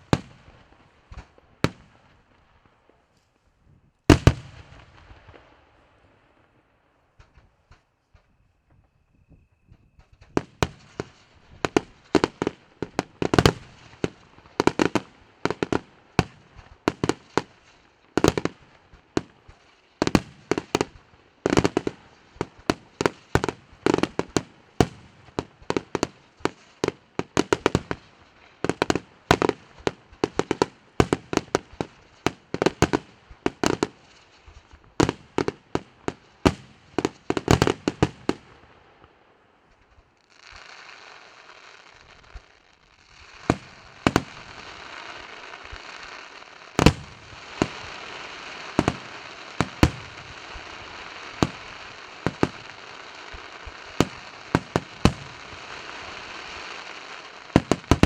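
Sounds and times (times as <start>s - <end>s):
fireworks bangs: 0.0s - 3.1s, 4.0s - 58.0s.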